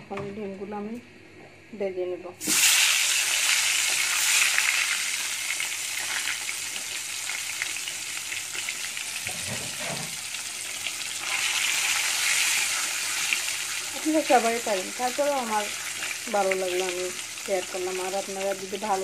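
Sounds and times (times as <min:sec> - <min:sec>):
eggs sizzling in hot oil: 0:02.4 - 0:19.0.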